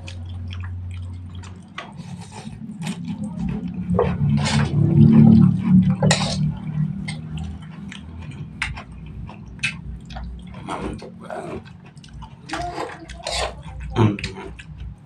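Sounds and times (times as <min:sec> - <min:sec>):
low hum: 0:00.0 - 0:15.0
person chewing noodles: 0:00.0 - 0:15.0.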